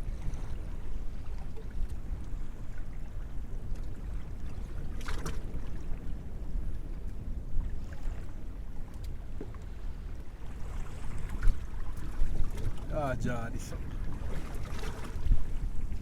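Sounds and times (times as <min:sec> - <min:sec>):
water against boat hull: 0:00.0 - 0:16.0
wind on microphone: 0:00.0 - 0:16.0.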